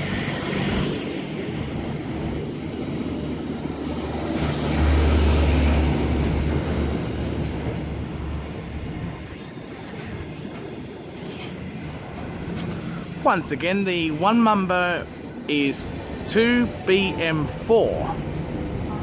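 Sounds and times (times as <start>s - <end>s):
freight train rolling on rails: 0.0s - 19.0s.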